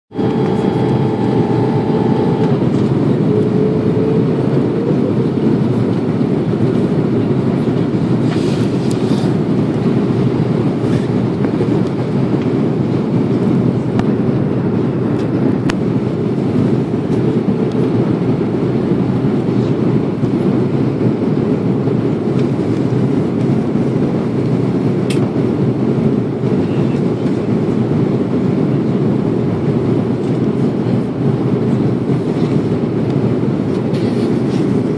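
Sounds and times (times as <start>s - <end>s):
aircraft engines rumbling: 0.1s - 34.9s
steady engine tone: 0.1s - 34.9s.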